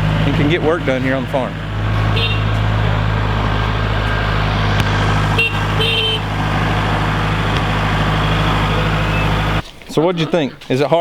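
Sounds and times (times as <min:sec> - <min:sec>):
diesel engine running: 0:00.0 - 0:10.8.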